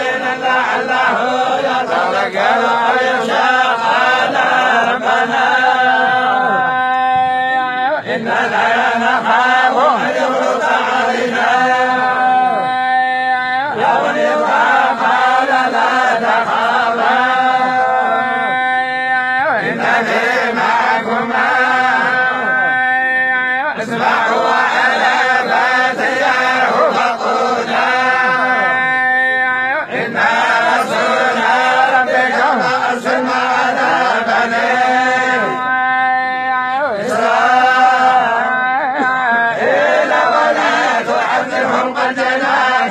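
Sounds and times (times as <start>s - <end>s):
men chanting in unison: 0.0s - 42.9s.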